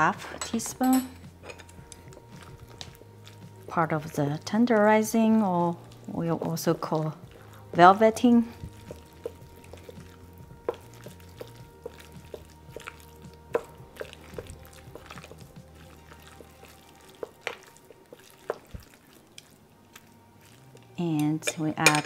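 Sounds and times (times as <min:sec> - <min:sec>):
faint background music: 0:00.0 - 0:22.0
wet squishing: 0:01.8 - 0:21.3.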